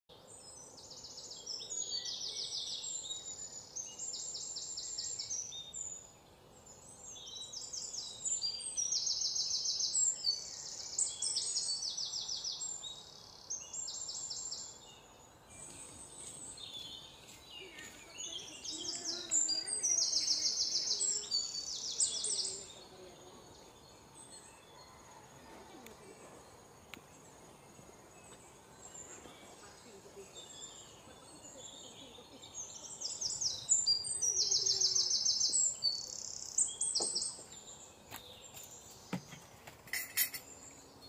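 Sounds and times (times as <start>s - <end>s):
songbirds singing trilled phrases: 0.2s - 41.0s.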